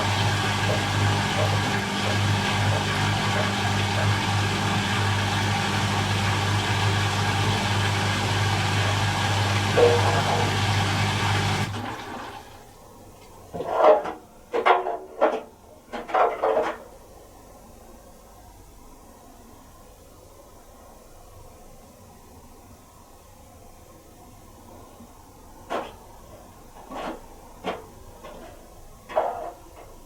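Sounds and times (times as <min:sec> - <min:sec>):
washing machine spinning hum: 0:00.0 - 0:30.0.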